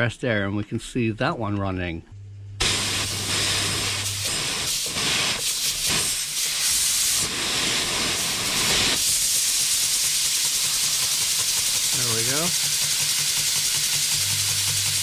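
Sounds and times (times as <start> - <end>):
compressed air hissing: 2.6 - 15.0.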